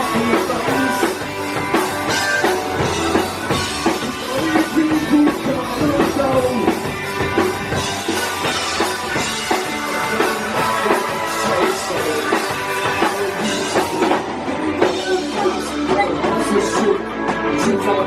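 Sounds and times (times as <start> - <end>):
bass guitar: 0.0 - 18.0
drum kit: 0.0 - 18.0
electric guitar: 0.0 - 18.0.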